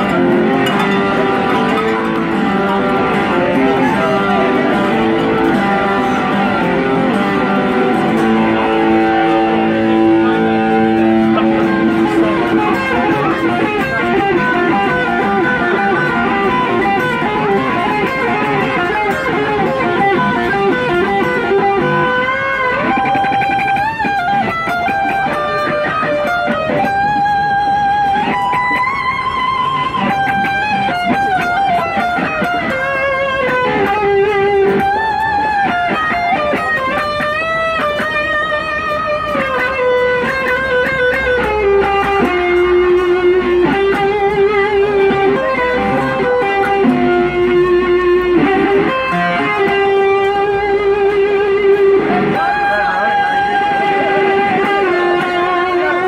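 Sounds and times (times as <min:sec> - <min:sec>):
electric guitar through amplifier: 0:00.0 - 0:56.0.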